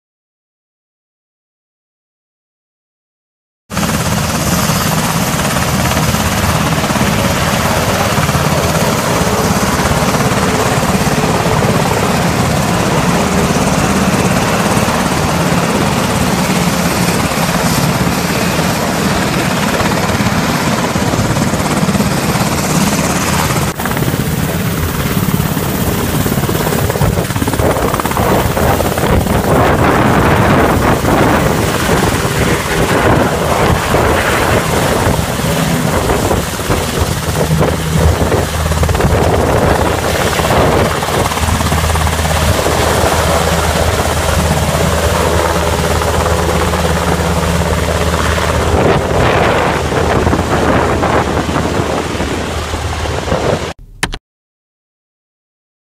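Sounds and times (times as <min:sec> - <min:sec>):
helicopter rotors and turbines: 0:03.7 - 0:54.2.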